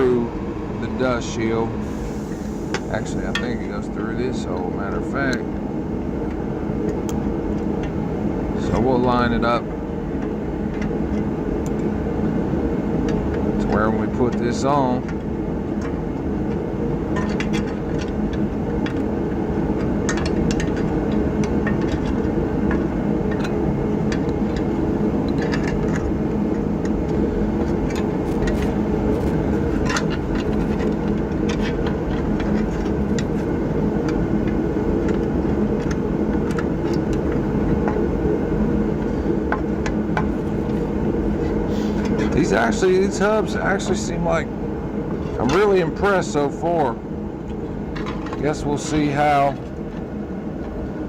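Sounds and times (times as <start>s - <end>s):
steady mechanical hum: 0.0s - 51.0s.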